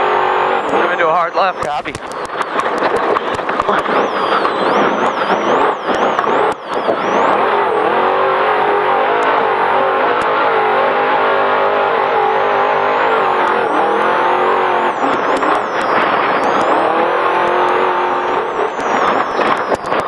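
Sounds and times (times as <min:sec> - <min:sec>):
race truck engine revving hard: 0:00.0 - 0:01.9, 0:02.6 - 0:20.0.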